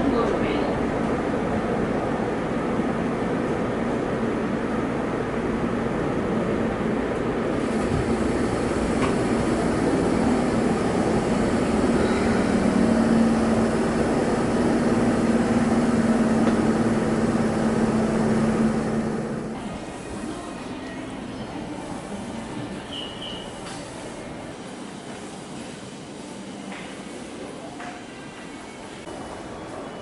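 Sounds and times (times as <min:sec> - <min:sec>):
electric train running slowly: 0:00.0 - 0:23.0, 0:23.6 - 0:30.0.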